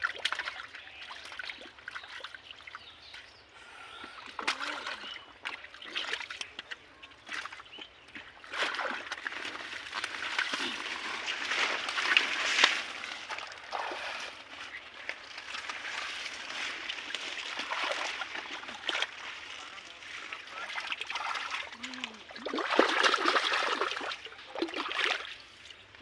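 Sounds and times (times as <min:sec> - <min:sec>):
muddy water sloshing: 0:00.0 - 0:26.0.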